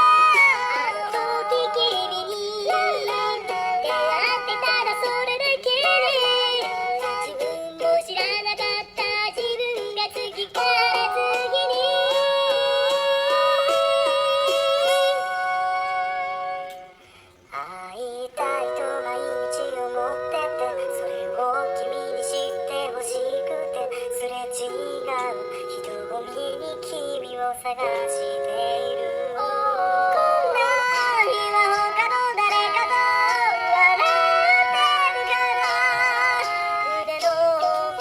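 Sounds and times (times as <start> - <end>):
synthesized cat-like voice singing: 0.0 - 16.6, 17.5 - 38.0.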